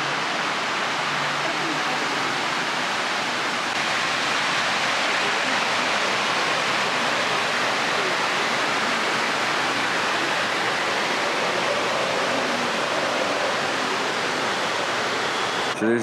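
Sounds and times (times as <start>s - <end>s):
water cascading: 0.0s - 15.8s.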